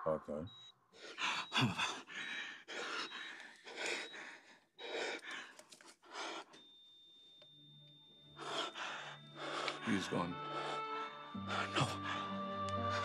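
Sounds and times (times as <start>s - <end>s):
heart monitor flatline tone: 0.0s - 5.4s, 6.1s - 12.4s.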